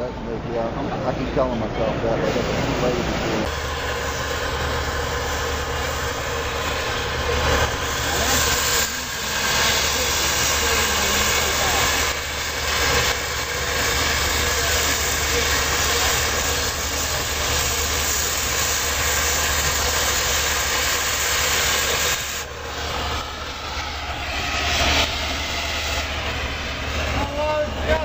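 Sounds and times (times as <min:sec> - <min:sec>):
loud steady hissing: 0:00.1 - 0:28.0.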